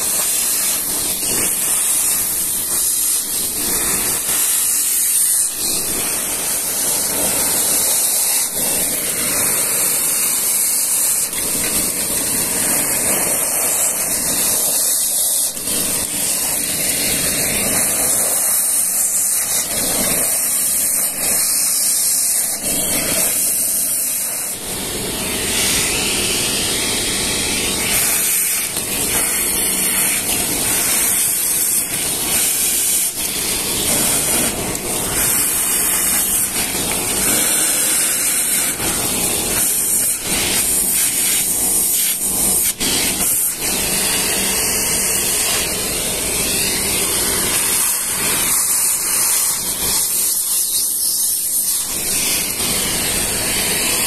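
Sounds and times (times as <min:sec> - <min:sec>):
wet vacuum cleaner sucking water: 0:00.0 - 0:54.0.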